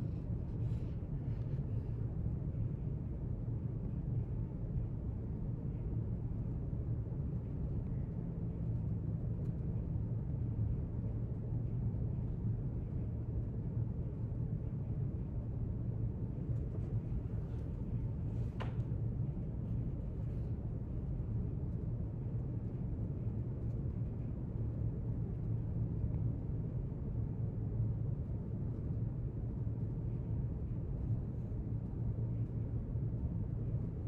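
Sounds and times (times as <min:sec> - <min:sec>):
low rumble of room tone: 0:00.0 - 0:34.0.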